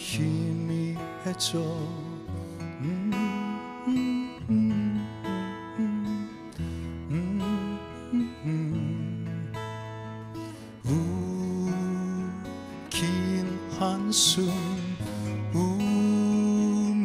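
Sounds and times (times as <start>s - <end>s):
acoustic guitars playing: 0.0s - 17.0s.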